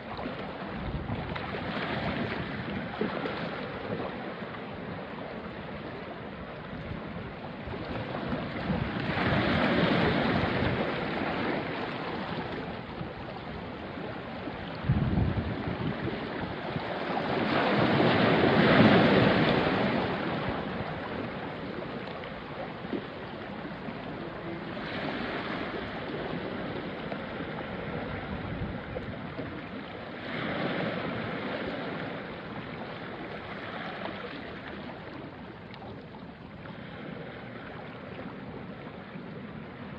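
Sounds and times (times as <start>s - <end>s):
waves washing onto rocky shore: 0.0s - 39.9s
wind rumble on microphone: 0.0s - 39.9s.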